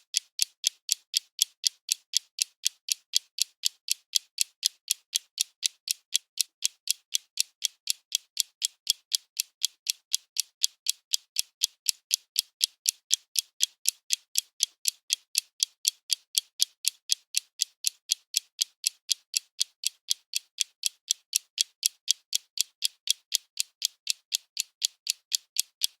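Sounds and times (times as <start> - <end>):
clock ticking: 0.0 - 26.0.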